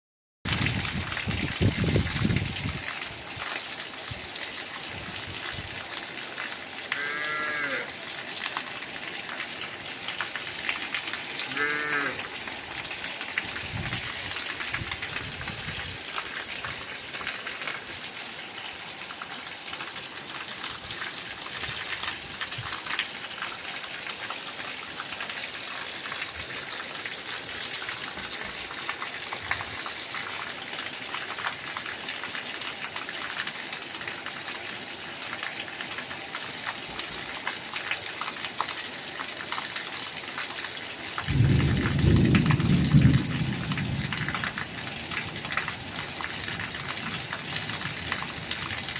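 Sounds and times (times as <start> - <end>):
steady rain falling: 0.5 - 48.9.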